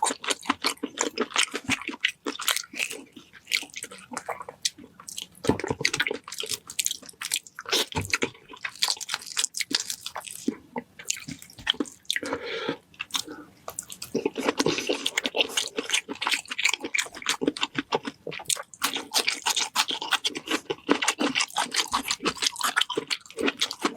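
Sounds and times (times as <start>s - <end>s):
wet chewing and crunchy bites: 0.0s - 23.9s.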